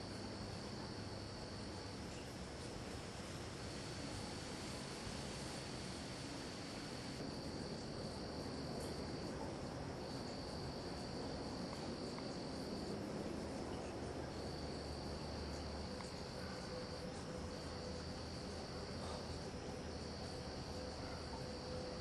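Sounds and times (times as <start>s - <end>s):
faint background hiss: 0.0s - 22.0s.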